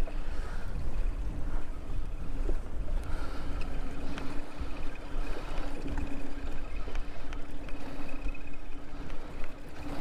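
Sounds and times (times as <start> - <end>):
steady low hum: 0.0 - 10.0
wind rumbling on microphone: 0.0 - 10.0.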